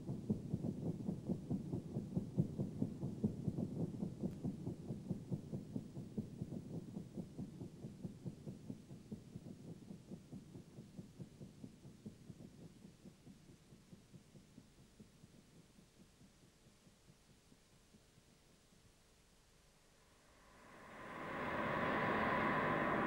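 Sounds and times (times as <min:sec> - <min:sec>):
low heartbeat-like throbbing pulse: 0:00.0 - 0:18.4, 0:20.2 - 0:23.0.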